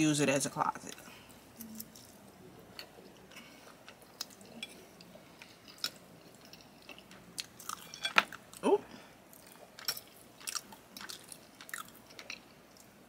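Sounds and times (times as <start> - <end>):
person chewing food: 0.9 - 13.0.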